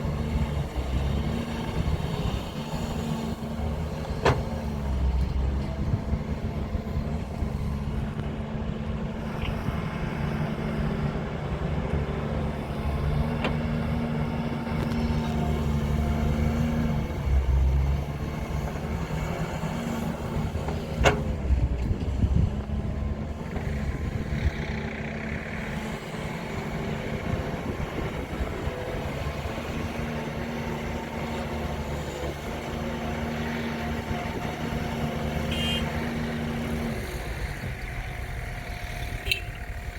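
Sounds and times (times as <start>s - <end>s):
heavy diesel engine working: 0.0s - 39.9s.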